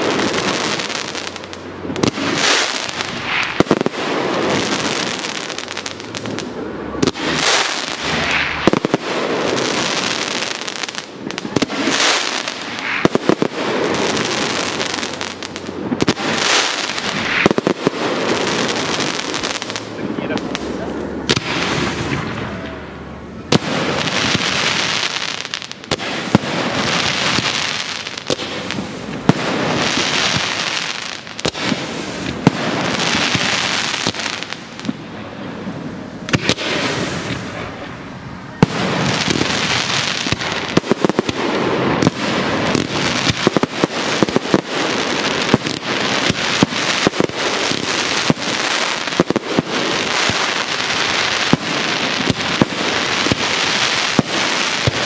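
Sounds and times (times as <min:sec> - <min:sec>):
fireworks bursting with sharp bangs: 0:00.0 - 0:55.0.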